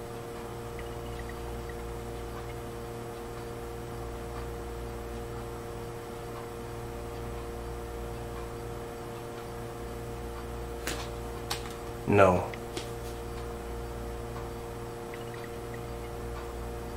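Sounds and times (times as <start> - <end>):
steady electrical hum: 0.0 - 16.9
faint ticks: 0.2 - 11.6, 14.2 - 16.9.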